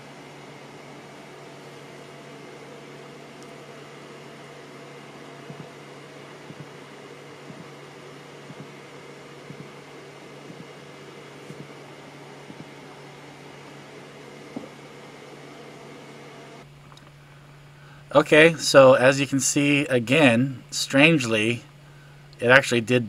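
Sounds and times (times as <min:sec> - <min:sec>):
fan-like whir: 0:00.0 - 0:23.0
low steady hum: 0:00.0 - 0:23.0.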